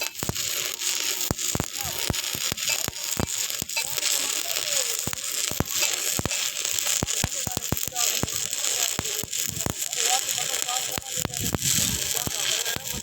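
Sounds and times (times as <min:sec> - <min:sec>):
welding arc crackling hiss: 0:00.0 - 0:13.0
welding pops and spatter: 0:00.0 - 0:13.0.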